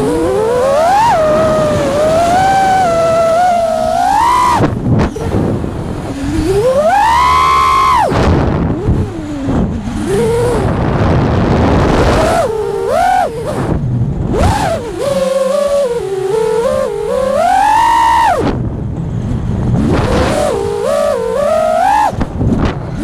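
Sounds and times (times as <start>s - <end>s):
drone motors whining: 0.0s - 23.0s
wind noise: 0.0s - 23.0s.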